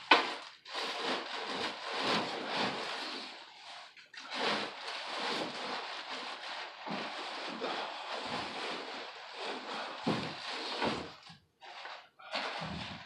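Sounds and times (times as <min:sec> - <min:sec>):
irregular rustling: 0:00.0 - 0:13.0.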